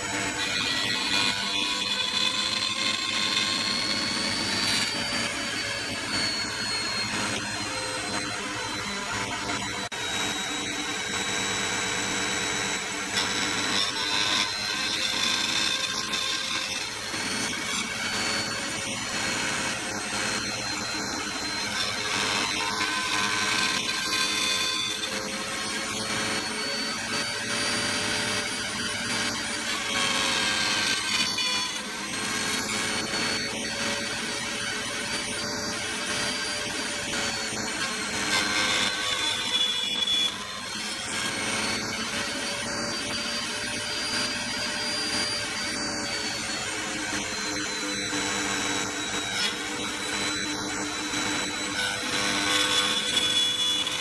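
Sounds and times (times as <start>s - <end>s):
power cutter whining: 0.0s - 54.0s.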